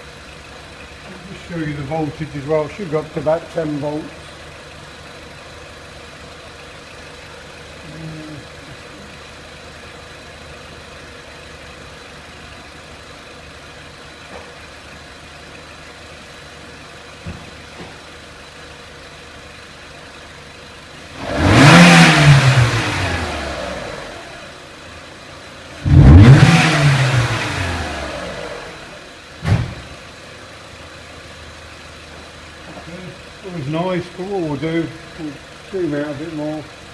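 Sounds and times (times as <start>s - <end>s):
car engine idling and revving: 0.0s - 36.9s.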